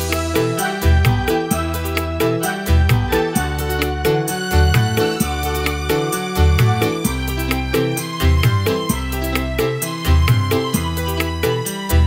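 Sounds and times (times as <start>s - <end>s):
bass: 0.0s - 12.0s
keyboard melody: 0.0s - 12.0s.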